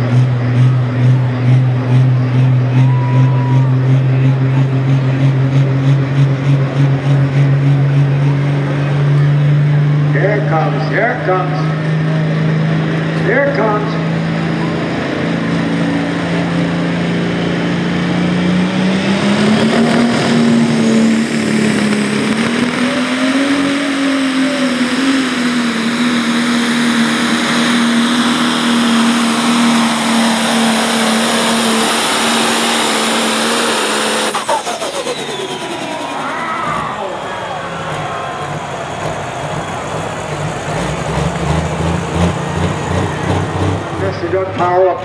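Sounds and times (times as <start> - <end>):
diesel tractor engine revving: 0.0 - 45.0.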